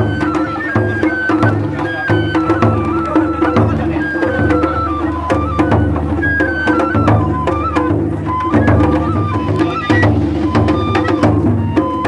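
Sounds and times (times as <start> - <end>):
high bamboo flute melody: 0.0 - 12.0
taiko drums beating: 0.0 - 12.0.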